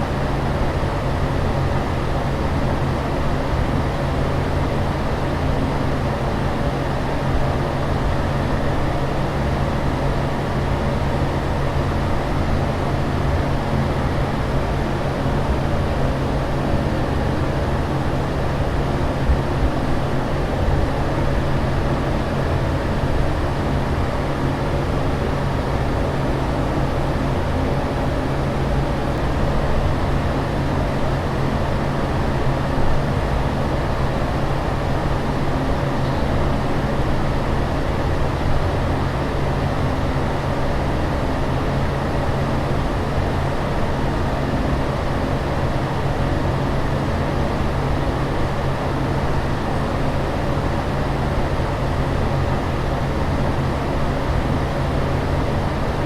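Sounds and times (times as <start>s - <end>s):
constant low hum: 0.0s - 56.0s.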